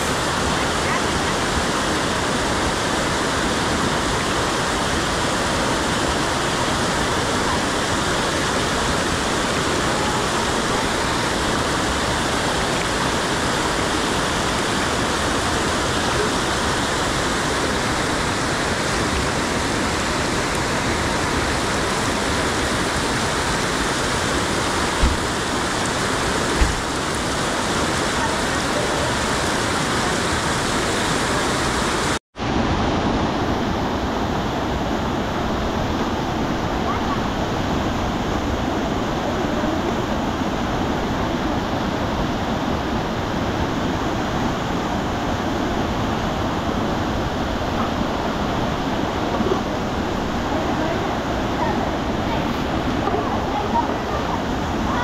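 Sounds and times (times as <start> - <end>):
mountain stream rushing over rocks: 0.0 - 55.0.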